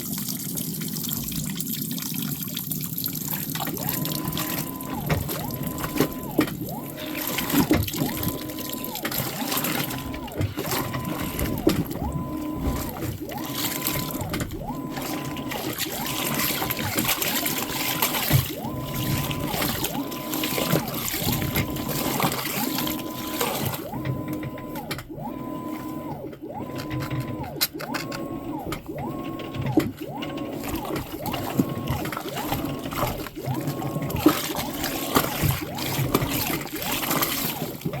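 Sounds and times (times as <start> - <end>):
soapy water sloshing: 0.0 - 38.0
electric motor whine: 3.9 - 36.4.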